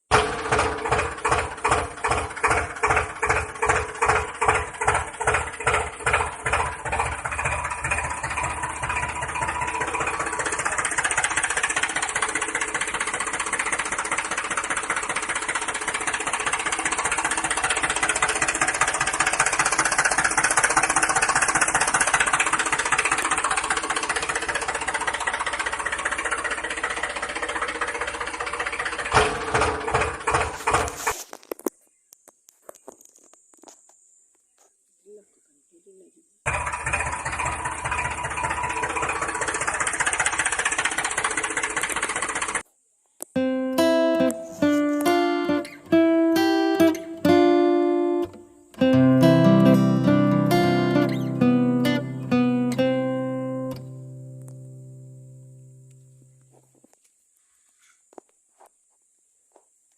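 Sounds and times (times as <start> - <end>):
tractor motor running under load: 0.0 - 31.5, 36.5 - 42.6, 43.4 - 56.6.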